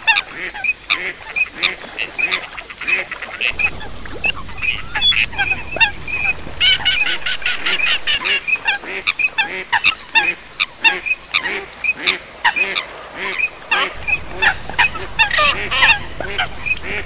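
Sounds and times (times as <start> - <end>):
coots and ducks honking: 0.1 - 17.0.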